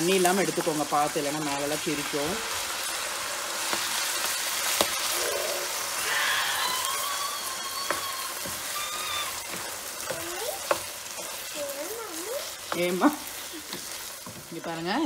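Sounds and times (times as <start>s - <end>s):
chicken sizzling in oil: 0.0s - 15.0s
wooden spatula stirring: 2.7s - 15.0s.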